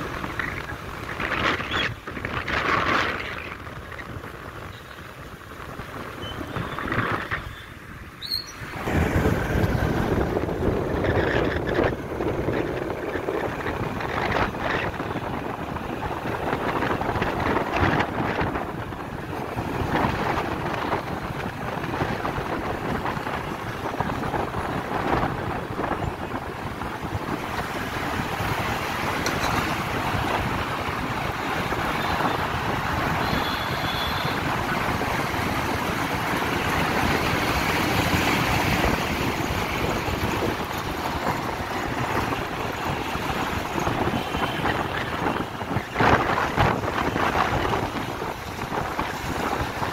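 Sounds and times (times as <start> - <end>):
road traffic noise: 0.0 - 49.9
wind rushing over microphone: 0.0 - 49.9.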